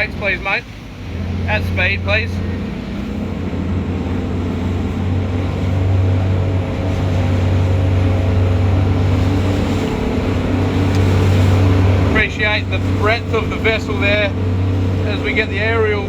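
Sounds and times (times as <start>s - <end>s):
outboard engines droning: 0.0s - 16.0s
rushing water: 0.0s - 16.0s
wind: 0.0s - 16.0s.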